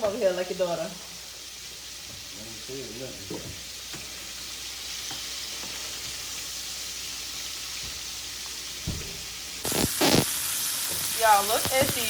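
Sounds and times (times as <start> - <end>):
shrimp sizzling in hot oil: 0.0 - 12.0.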